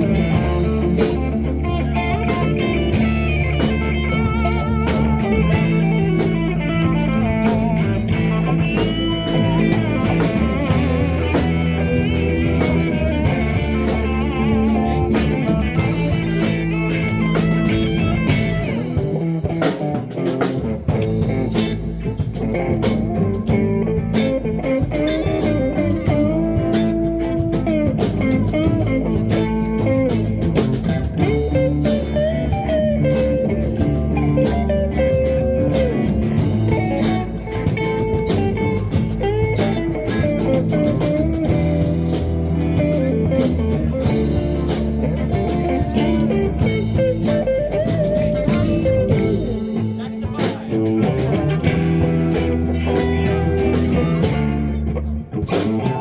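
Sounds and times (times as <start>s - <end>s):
blues band playing: 0.0s - 56.0s
electric guitar: 0.0s - 56.0s.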